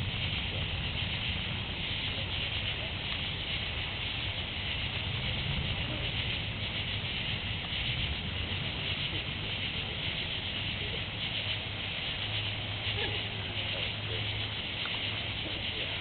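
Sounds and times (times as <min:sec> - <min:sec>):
low fluctuating rumble: 0:00.0 - 0:16.0
steady outdoor hiss: 0:00.0 - 0:16.0.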